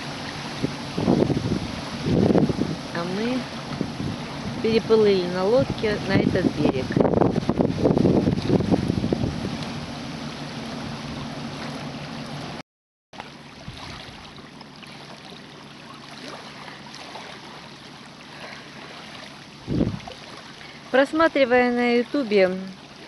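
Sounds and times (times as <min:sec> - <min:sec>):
boat engine humming: 0:00.0 - 0:12.6, 0:13.2 - 0:23.0
choppy river water: 0:00.0 - 0:12.6, 0:13.2 - 0:23.0
water lapping: 0:00.0 - 0:12.6, 0:13.2 - 0:23.0
wind: 0:00.0 - 0:23.0.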